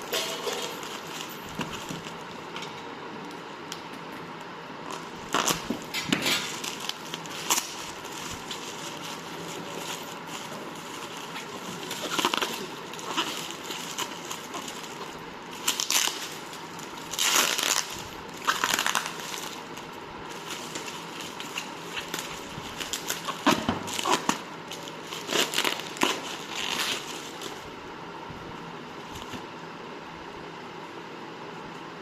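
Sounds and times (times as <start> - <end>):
packaging crinkling and rustling: 0.0 - 2.5, 4.9 - 27.8, 29.0 - 29.5
steady background hiss: 0.0 - 32.0.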